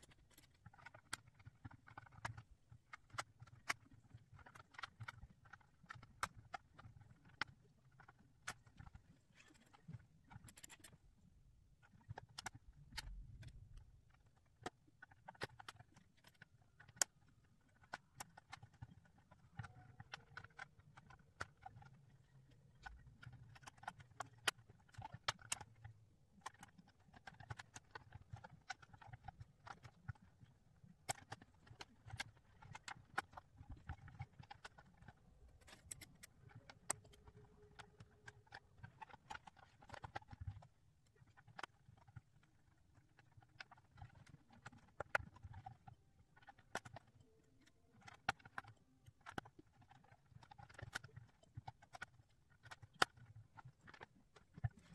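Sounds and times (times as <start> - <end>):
plastic puzzle pieces clicking: 0.0 - 11.0, 11.8 - 54.9.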